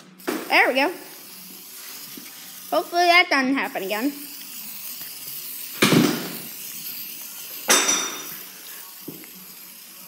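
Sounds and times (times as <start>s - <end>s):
faint spray can hiss: 0.0s - 10.0s
spray paint can sputtering: 0.0s - 10.0s.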